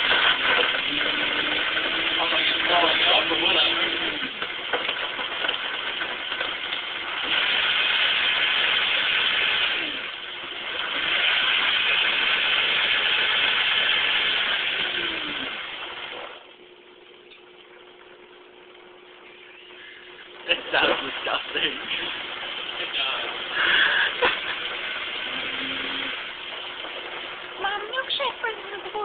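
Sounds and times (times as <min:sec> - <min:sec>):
blender crushing ice: 0:00.0 - 0:16.5, 0:20.5 - 0:29.0.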